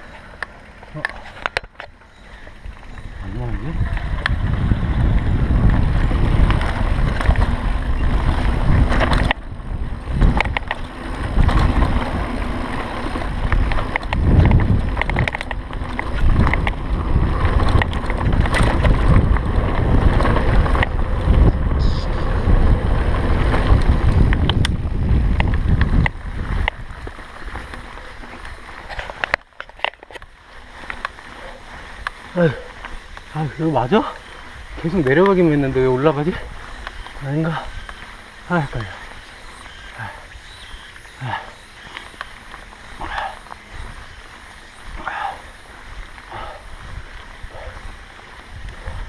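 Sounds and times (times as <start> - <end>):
mountain bike rattles and knocks: 0.0 - 49.0
wind buffeting microphone: 2.5 - 29.3, 30.6 - 49.0.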